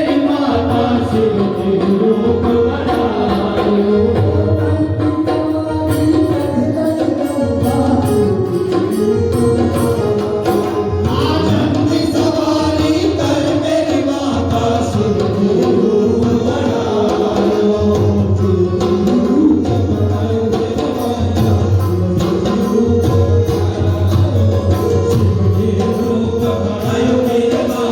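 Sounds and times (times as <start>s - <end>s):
steady percussion beat: 0.0s - 27.9s.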